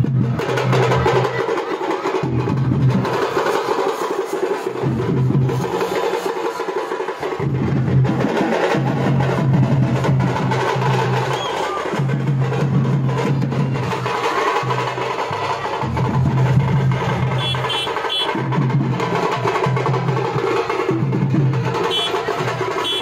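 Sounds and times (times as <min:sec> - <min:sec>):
drums beating fast: 0:00.0 - 0:23.0.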